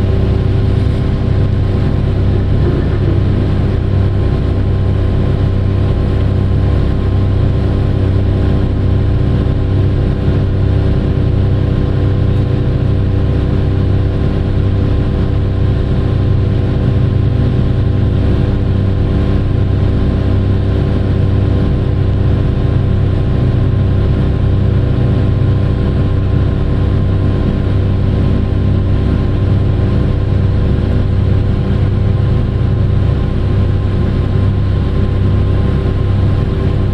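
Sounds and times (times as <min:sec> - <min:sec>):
large diesel engine droning: 0:00.0 - 0:36.9.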